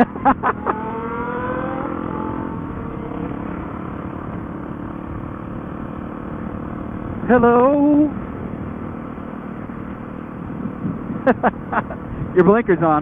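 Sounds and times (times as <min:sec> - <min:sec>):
motorcycle engine accelerating: 0:00.0 - 0:13.0
road rush: 0:00.0 - 0:13.0.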